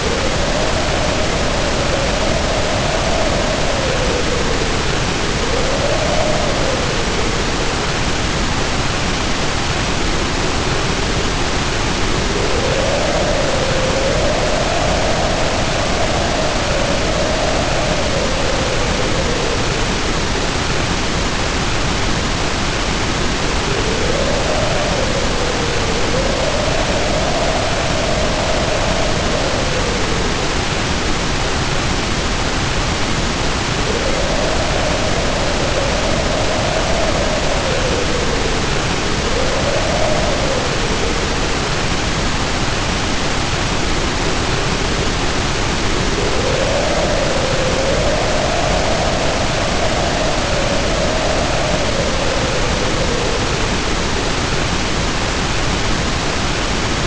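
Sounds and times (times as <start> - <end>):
heavy rain pouring: 0.0 - 57.0
wind howling: 0.0 - 57.0.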